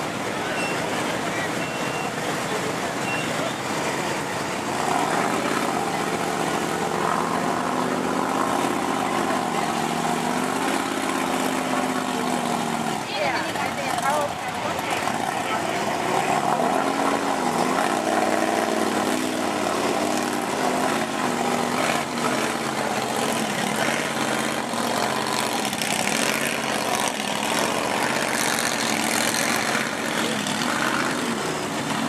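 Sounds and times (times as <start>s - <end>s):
diesel truck engine revving: 0.0s - 32.0s
steady rushing noise: 0.0s - 32.0s.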